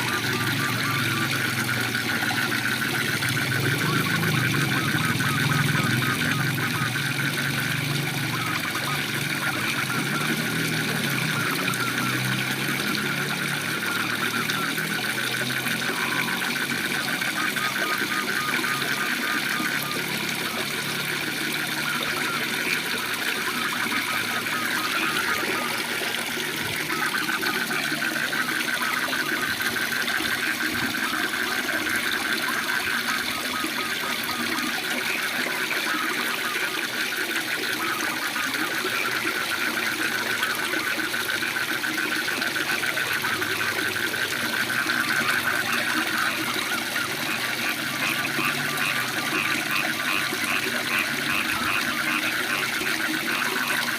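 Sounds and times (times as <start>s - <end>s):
frogs pulsing calls: 0.0s - 53.9s.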